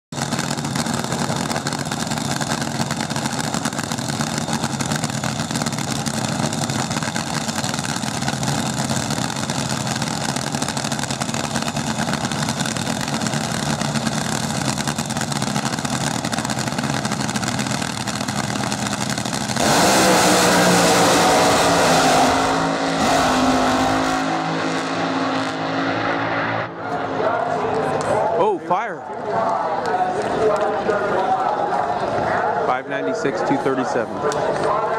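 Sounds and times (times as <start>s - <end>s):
dragster engines roaring: 0.2s - 34.9s.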